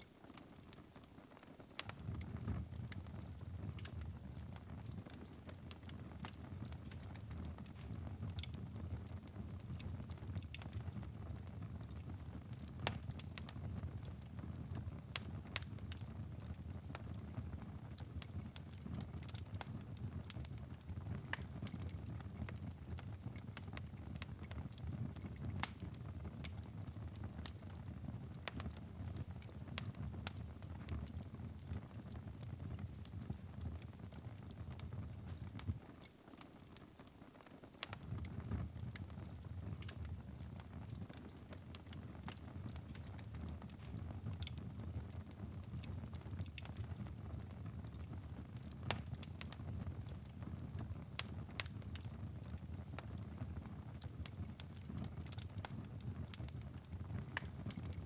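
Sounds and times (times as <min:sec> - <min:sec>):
fire crackling and popping: 0:00.0 - 0:58.0
low rumble of flames: 0:01.8 - 0:35.8, 0:37.8 - 0:58.0.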